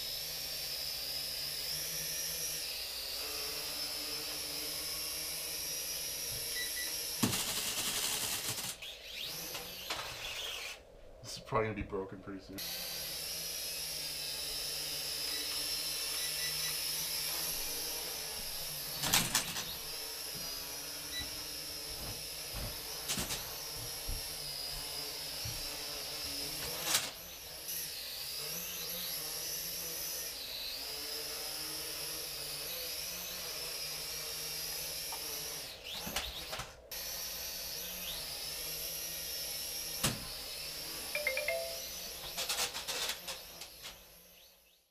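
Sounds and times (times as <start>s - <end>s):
toy drone propellers whining: 0.0s - 10.9s, 12.6s - 44.9s.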